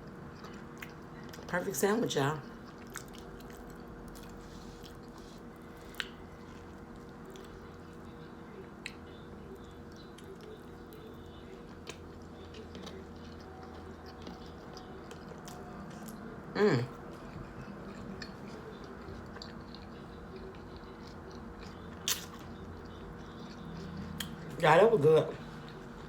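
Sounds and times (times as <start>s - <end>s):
person chewing: 0.0s - 1.5s, 2.4s - 8.2s, 8.8s - 16.3s, 16.9s - 24.5s
faint steady hum: 0.0s - 26.0s.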